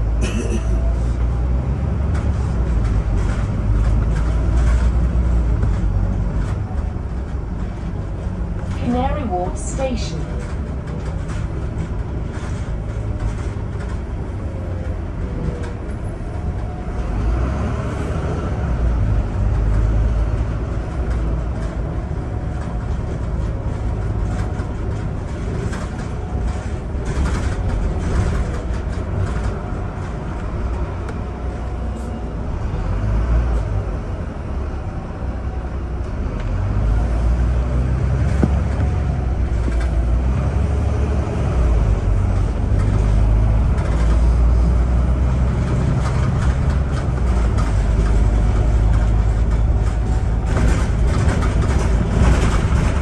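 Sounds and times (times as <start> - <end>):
bus engine and road rumble: 0.0 - 53.0
bodywork rattles and clicks: 1.4 - 9.3, 10.2 - 17.0, 19.0 - 31.9, 36.1 - 53.0.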